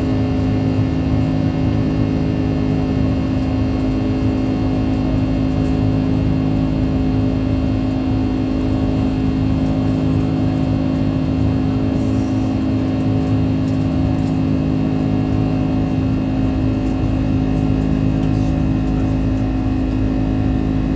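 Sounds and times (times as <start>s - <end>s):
jet engine cabin drone: 0.0s - 20.9s.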